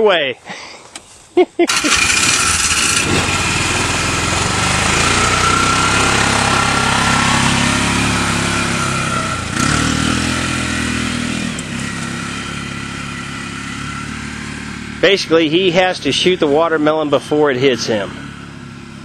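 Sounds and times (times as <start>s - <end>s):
utility vehicle engine driving off: 1.7s - 19.0s.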